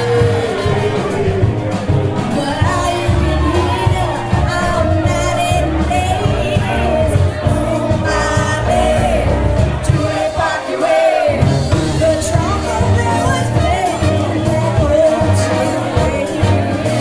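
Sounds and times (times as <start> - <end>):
bass: 0.0 - 10.6, 11.2 - 17.0
drums: 0.0 - 17.0
horns: 0.0 - 17.0
trombone: 0.0 - 17.0
woman singing: 0.0 - 17.0.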